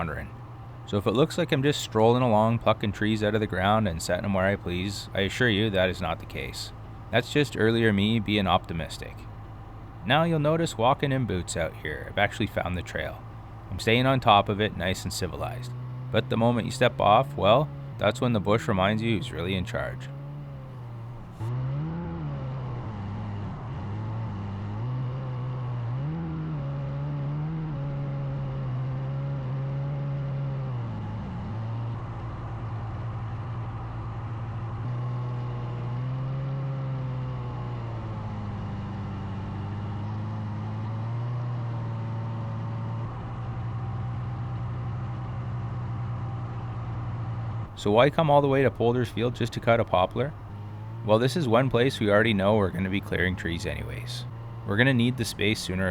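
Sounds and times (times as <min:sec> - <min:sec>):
snowmobile engine running: 0:00.0 - 0:21.5, 0:30.2 - 0:55.9.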